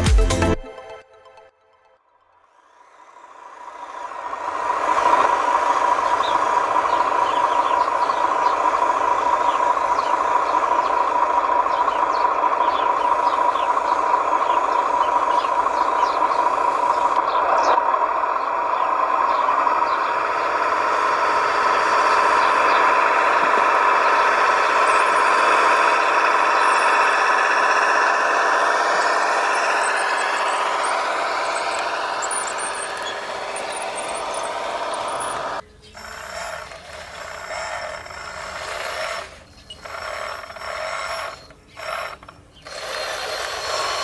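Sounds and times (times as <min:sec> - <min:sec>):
model machine mechanical whine: 0:02.6 - 0:44.0.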